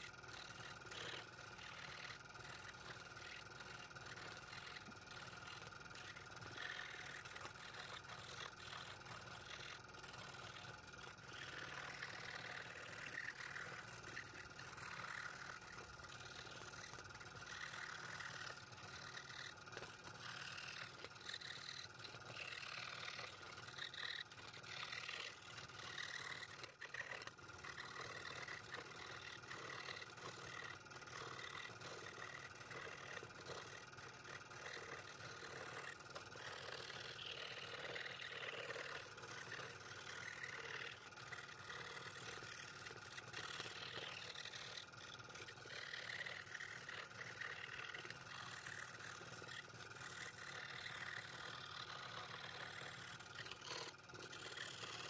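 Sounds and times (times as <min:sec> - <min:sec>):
scroll saw cutting wood: 0:00.0 - 0:55.0.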